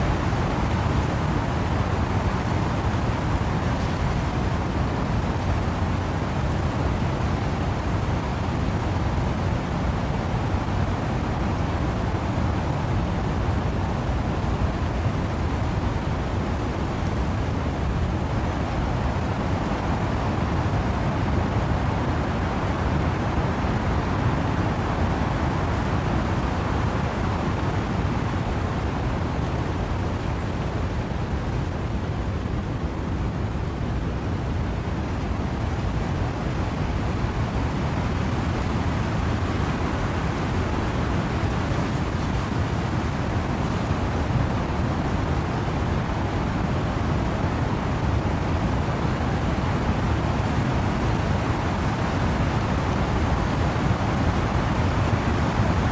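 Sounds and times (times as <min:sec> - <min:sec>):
rain through trees: 0:00.0 - 0:55.9.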